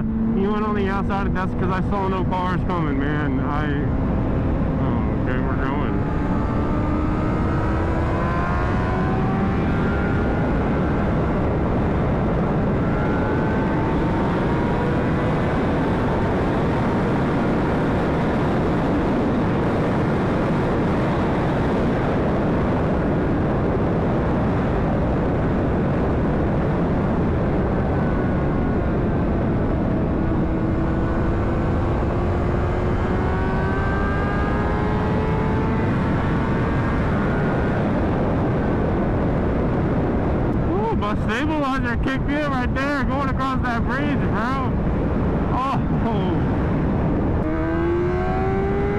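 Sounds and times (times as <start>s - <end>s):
wind rush on microphone: 0.0s - 48.9s.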